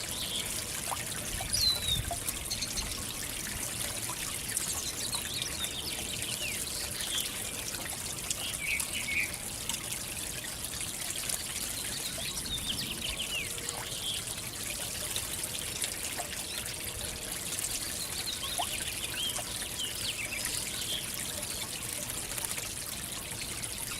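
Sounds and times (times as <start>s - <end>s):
fountain water trickling: 0.0s - 23.9s.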